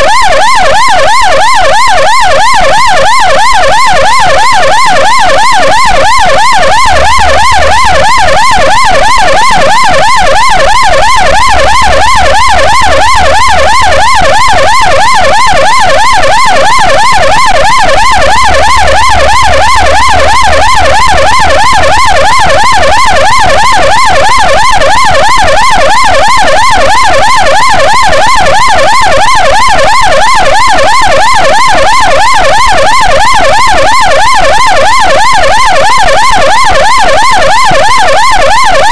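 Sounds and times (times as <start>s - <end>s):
ambulance siren yelping: 0.0s - 38.9s.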